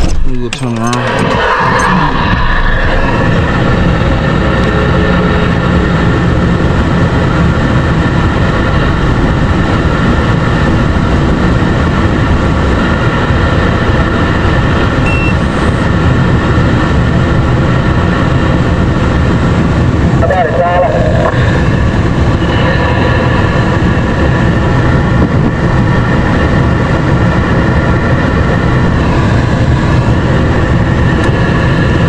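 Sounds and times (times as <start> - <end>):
truck engine: 0.0 - 32.0.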